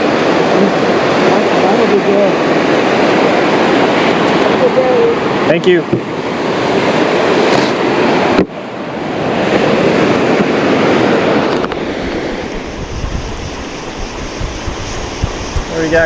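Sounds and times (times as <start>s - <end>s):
ocean surf washing on beach: 0.0s - 16.0s
wind buffeting microphone: 0.0s - 16.0s.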